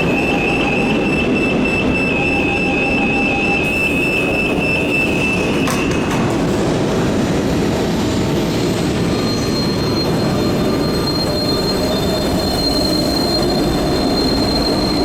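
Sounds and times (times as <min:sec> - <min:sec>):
high wheel squeal: 0:00.0 - 0:06.0, 0:08.6 - 0:15.0
train wheels rumbling on rails: 0:00.0 - 0:15.0.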